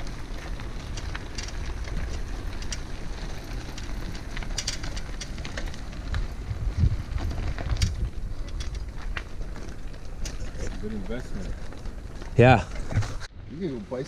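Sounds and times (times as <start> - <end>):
small clicks and rattles: 0.0 - 13.2
bicycle tyres crunching on gravel: 0.0 - 14.0.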